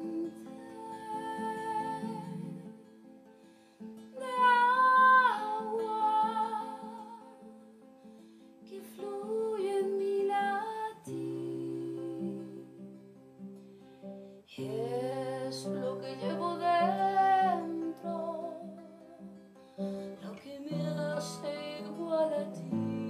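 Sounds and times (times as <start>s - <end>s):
woman singing: 0.0s - 2.9s, 4.0s - 7.6s, 8.6s - 13.2s, 14.5s - 23.0s
acoustic guitar picked notes: 0.0s - 23.0s.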